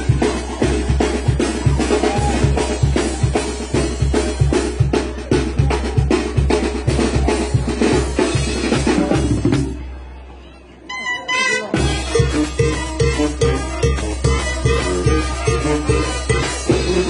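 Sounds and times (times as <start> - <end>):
fast drum-driven dance music: 0.0 - 9.8, 11.8 - 17.0.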